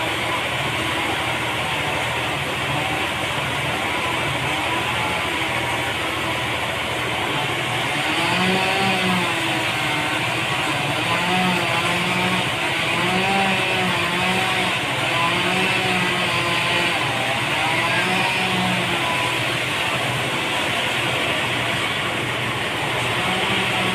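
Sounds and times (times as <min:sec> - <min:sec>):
sawmill machinery running: 0:00.0 - 0:23.9.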